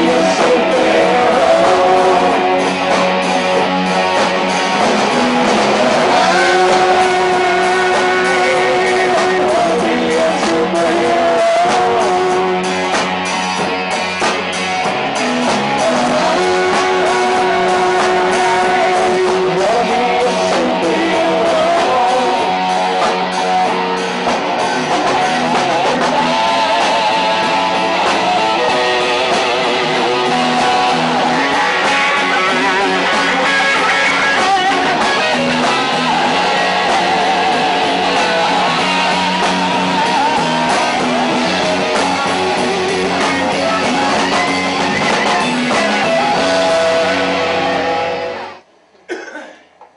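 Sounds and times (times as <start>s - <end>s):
person singing: 0.0s - 13.8s, 15.2s - 48.6s
rock band music: 0.0s - 48.7s.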